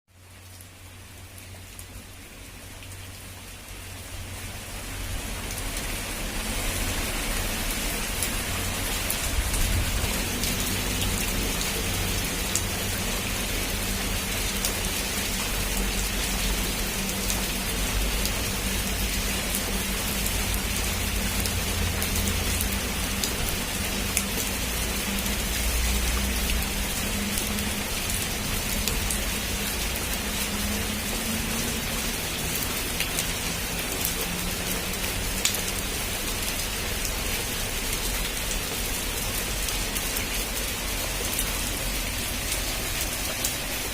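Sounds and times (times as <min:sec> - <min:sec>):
heavy rain on a roof: 0:00.1 - 0:43.9
raindrops ticking: 0:04.6 - 0:43.9.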